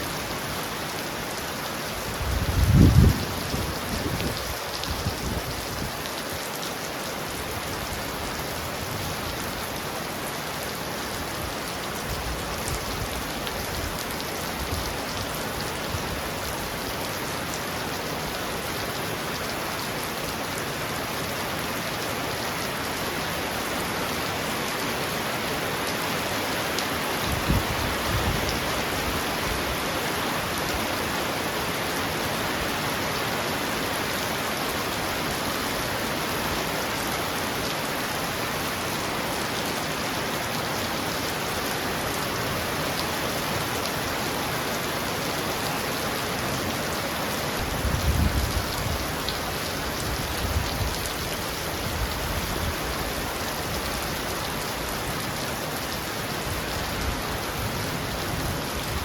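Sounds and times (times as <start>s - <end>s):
heavy rain drumming on roof: 0.0s - 59.0s.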